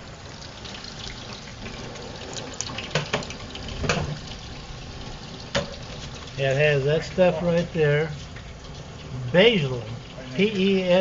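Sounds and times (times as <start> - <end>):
fish sizzling on a grill: 0.0 - 11.0
grill pops and crackles: 0.3 - 10.8.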